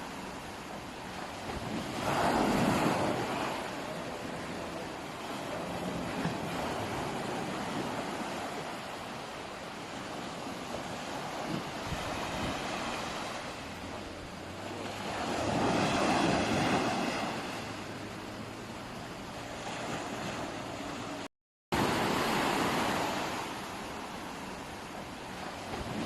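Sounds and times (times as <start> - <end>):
wind buffeting microphone: 0.0 - 21.2
sea waves washing in: 0.0 - 26.0.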